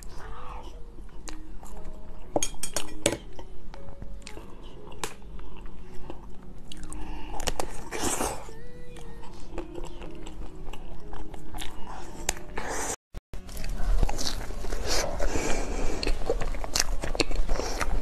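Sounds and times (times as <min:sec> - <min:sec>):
person chewing cake: 0:00.0 - 0:02.3, 0:04.2 - 0:12.6, 0:13.4 - 0:18.0.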